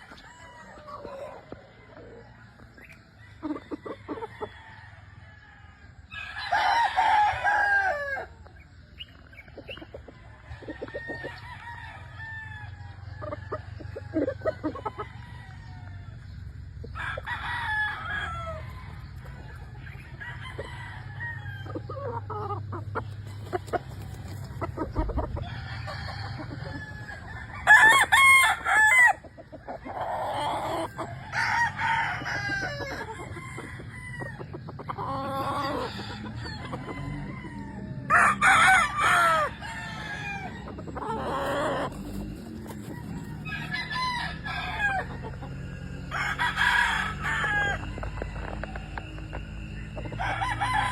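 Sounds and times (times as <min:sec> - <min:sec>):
chickens clucking: 0:00.0 - 0:50.9
roosters crowing: 0:00.0 - 0:50.9.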